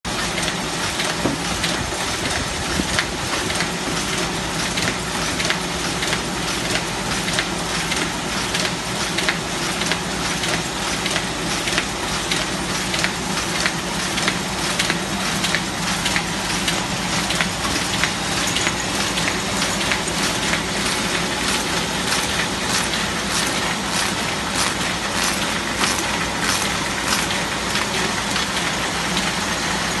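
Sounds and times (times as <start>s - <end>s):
paper folding machine clattering: 0.1s - 30.0s.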